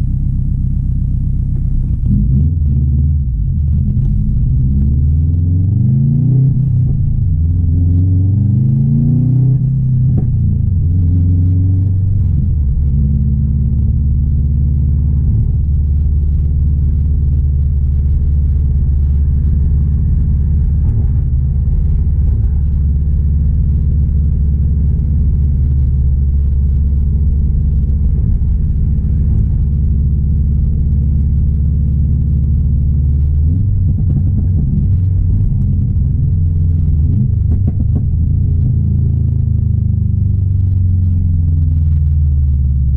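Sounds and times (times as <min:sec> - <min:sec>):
car engine revving and cruising: 0:00.0 - 0:42.9.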